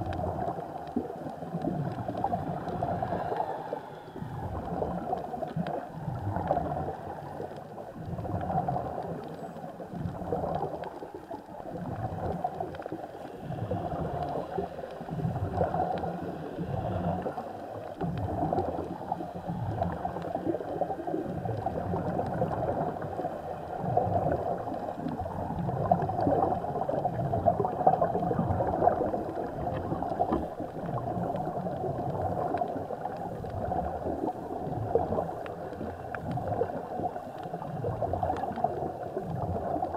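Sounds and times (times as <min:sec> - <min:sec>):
underwater gurgling and bubbling: 0:00.0 - 0:39.9.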